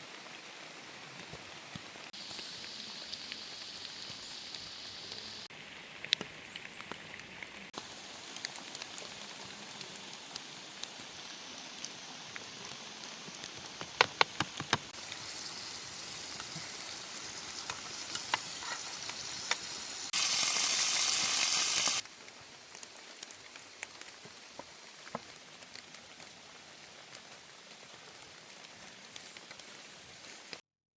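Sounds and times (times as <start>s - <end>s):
food frying in a pan: 0.0s - 5.7s, 7.6s - 30.6s
rain falling: 0.0s - 30.6s.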